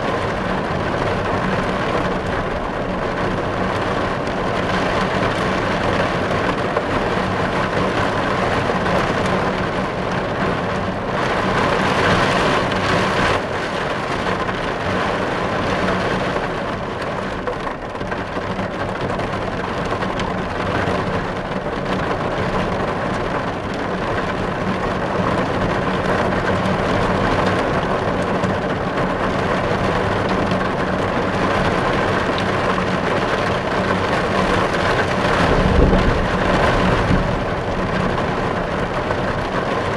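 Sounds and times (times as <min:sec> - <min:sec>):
heavy rain on car windows: 0:00.0 - 0:39.9.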